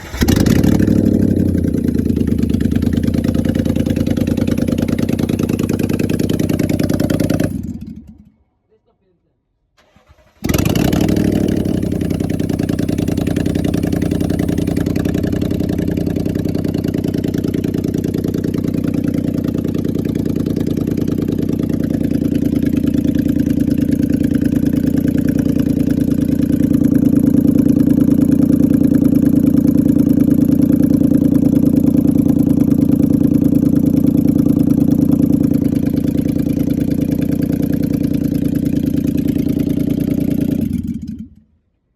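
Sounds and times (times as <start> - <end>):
car engine idling: 0.0 - 8.2, 9.8 - 41.4.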